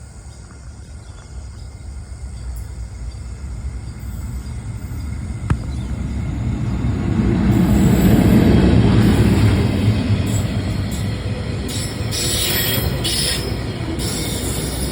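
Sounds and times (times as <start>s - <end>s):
freight train rumbling: 0.0s - 14.9s.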